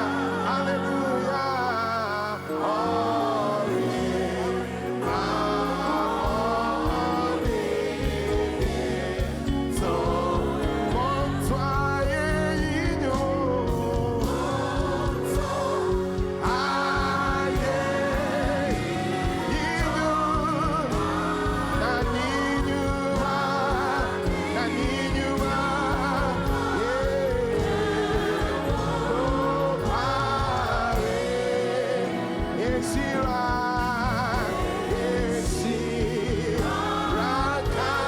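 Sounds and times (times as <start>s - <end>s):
gospel music with choir and band: 0.0s - 38.0s.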